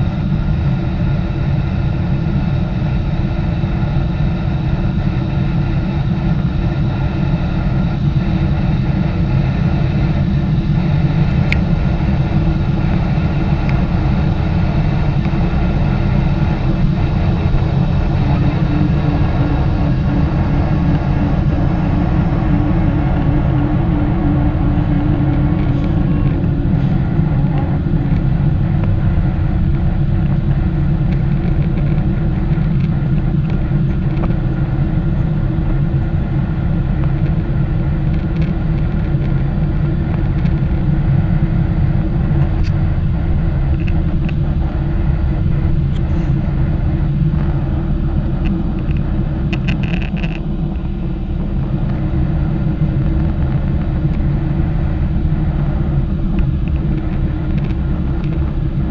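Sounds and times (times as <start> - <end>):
jet engines low rumble: 0.0 - 58.9.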